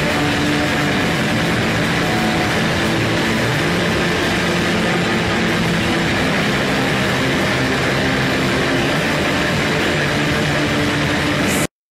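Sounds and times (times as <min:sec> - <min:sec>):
distorted electric guitar: 0:00.0 - 0:11.7.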